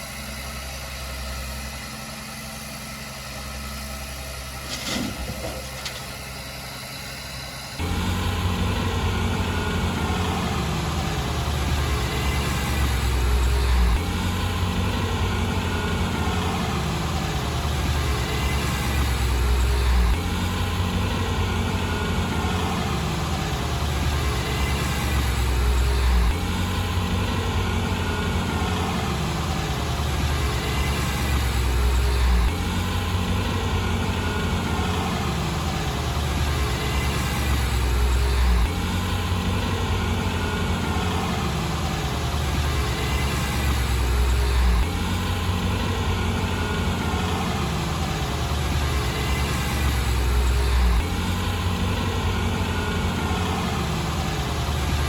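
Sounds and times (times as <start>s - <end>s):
heavy diesel engine rumbling: 0.0s - 55.0s.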